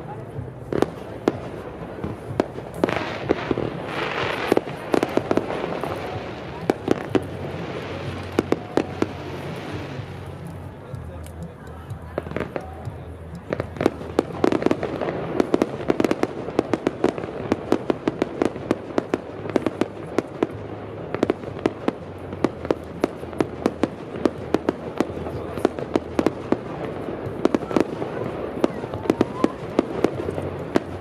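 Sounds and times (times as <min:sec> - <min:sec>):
fireworks bangs and cracks: 0:00.0 - 0:11.4, 0:12.1 - 0:31.0.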